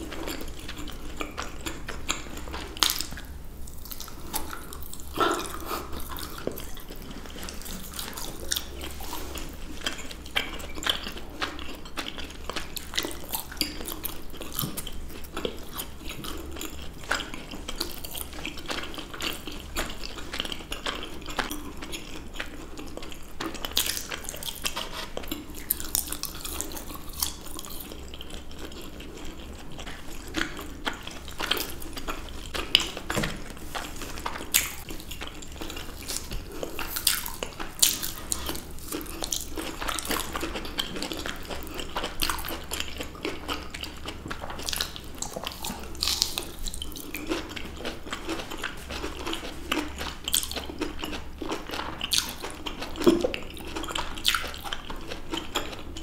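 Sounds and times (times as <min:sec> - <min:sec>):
people chewing juicy fruit: 0:00.0 - 0:56.0.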